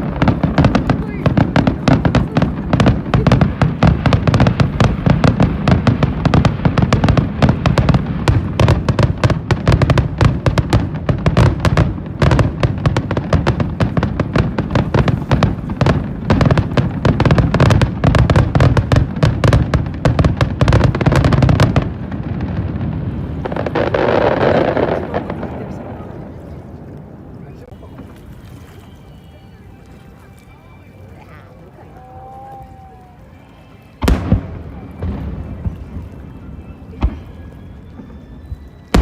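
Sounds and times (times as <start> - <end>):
fireworks bursts and bangs: 0.0 - 26.6, 34.0 - 39.0.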